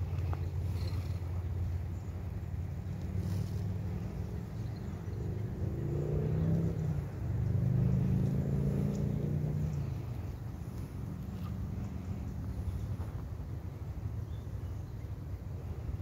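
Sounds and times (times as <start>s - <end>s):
engine hum: 0.0s - 16.0s
steady low rumble: 0.0s - 16.0s.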